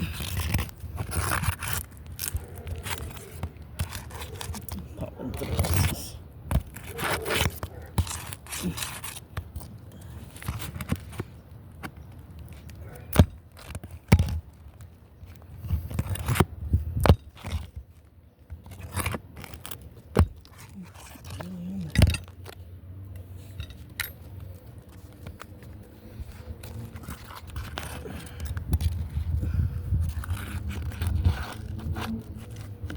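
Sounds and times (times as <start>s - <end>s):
shingles scraping and crackling: 0.0s - 32.9s.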